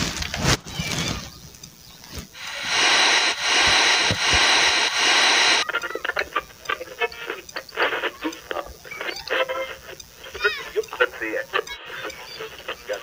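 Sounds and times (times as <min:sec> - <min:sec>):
radio crackles and blips: 0:01.5 - 0:13.0
radio static hiss: 0:01.5 - 0:13.0.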